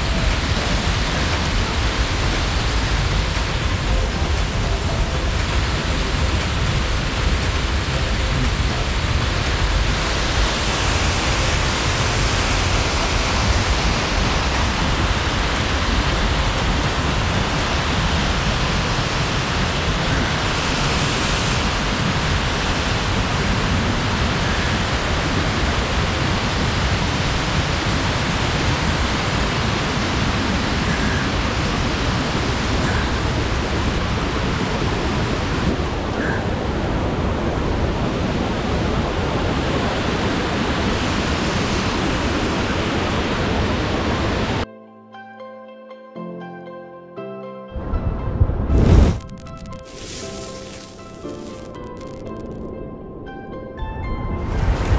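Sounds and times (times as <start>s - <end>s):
waterfall rushing: 0.0s - 44.6s, 48.7s - 52.6s, 54.4s - 54.9s.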